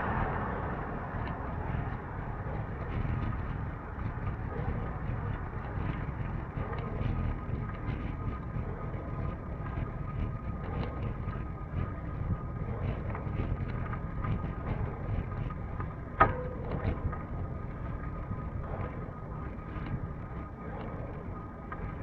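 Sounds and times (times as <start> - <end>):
rumbling ride noise: 0.0 - 22.0
wind on microphone: 0.0 - 22.0.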